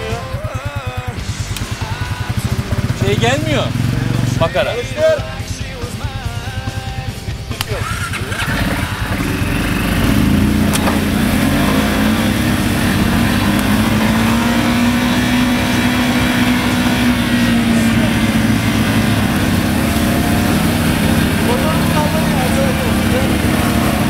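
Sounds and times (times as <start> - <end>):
atv engine at high revs: 0.0 - 24.0.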